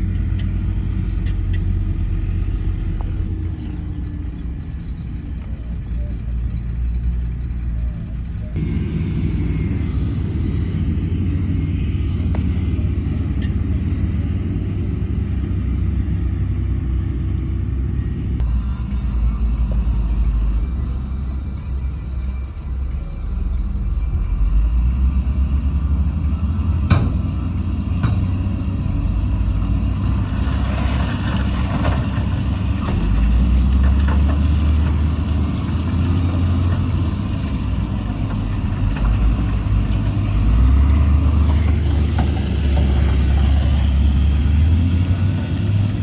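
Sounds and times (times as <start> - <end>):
diesel engine rumble: 0.0 - 46.0.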